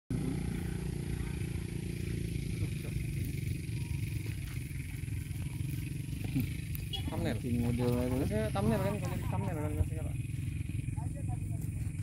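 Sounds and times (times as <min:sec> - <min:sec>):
motor running: 0:00.1 - 0:12.0.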